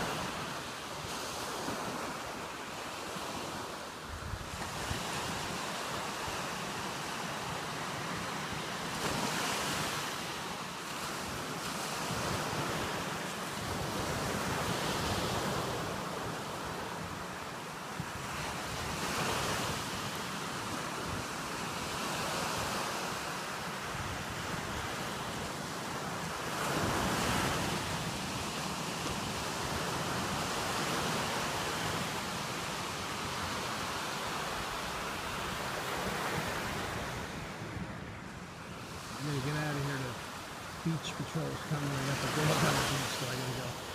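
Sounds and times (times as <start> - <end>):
surf washing onto beach: 0.0 - 43.9.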